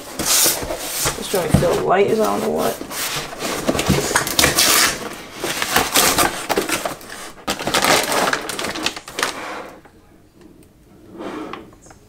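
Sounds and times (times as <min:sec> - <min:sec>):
cardboard box rustling: 0:00.0 - 0:09.9
plastic bag crinkling: 0:00.0 - 0:09.9.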